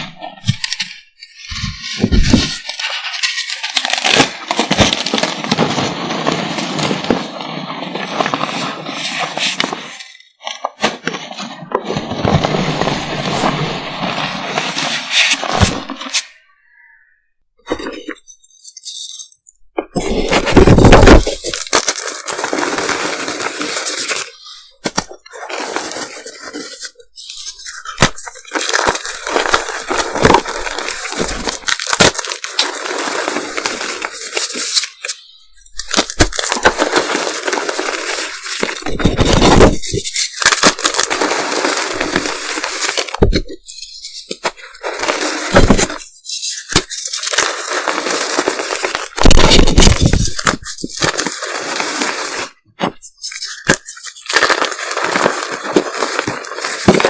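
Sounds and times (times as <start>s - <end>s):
chalk crunching and crackling: 0.2s - 17.0s, 17.6s - 57.0s.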